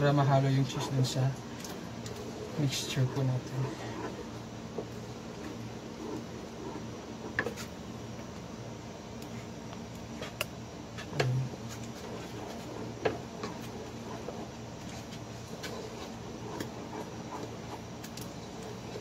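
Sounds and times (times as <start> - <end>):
steady low hum: 0.0 - 19.0
spoon stirring sticky mixture: 0.2 - 19.0.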